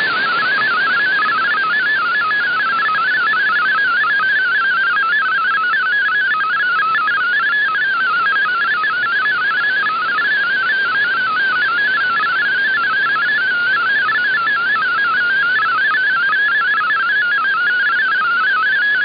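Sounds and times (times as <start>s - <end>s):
warbling digital radio tones: 0.0s - 17.9s
receiver static: 0.0s - 19.0s.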